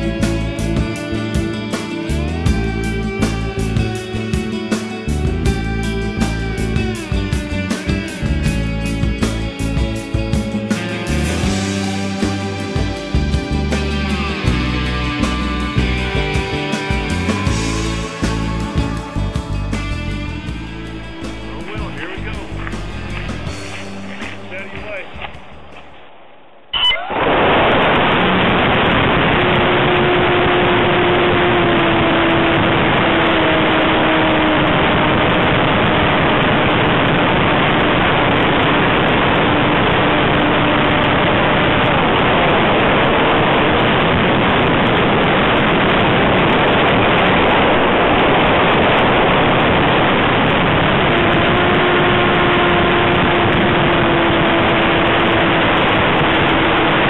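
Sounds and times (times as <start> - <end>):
small airplane engine and propeller: 0.0 - 25.9, 28.0 - 57.0.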